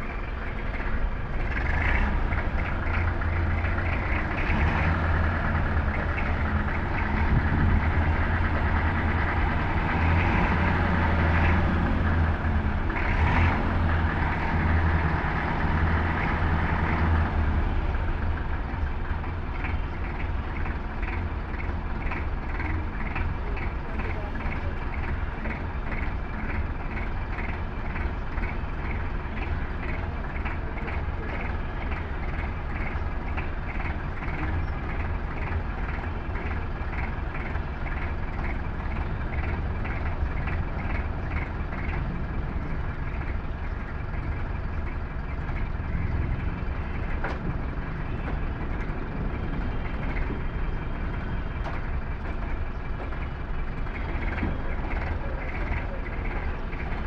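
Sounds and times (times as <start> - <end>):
forklift engine running: 0.0 - 57.0.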